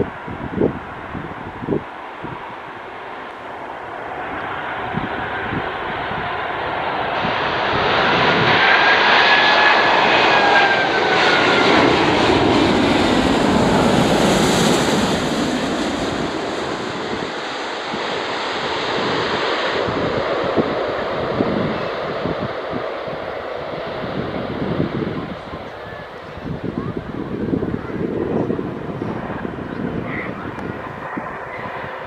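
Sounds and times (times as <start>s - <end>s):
jet airliner roaring overhead: 0.0s - 32.0s.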